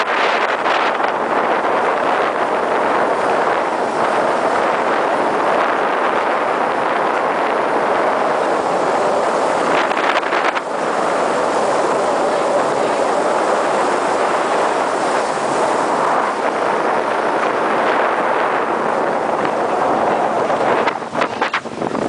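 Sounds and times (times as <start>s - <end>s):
water moving past hull: 0.0s - 22.0s
wind buffeting microphone: 0.0s - 22.0s.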